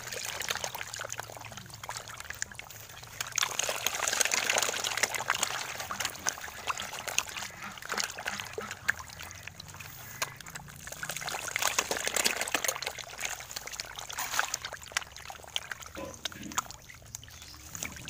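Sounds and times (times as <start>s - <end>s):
fish splashing in a bucket: 0.0s - 18.0s
trickling water: 0.0s - 18.0s.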